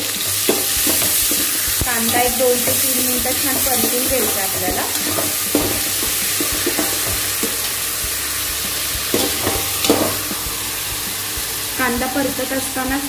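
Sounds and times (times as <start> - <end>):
spatula scraping a metal pot: 0.0 - 11.8
onion sizzling in hot oil: 0.0 - 13.0.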